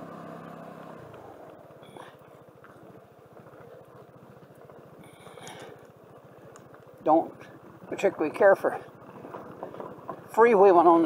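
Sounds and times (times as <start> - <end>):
scooter engine pulsing: 0.0 - 11.0
tyres rolling on gravel: 0.0 - 11.0.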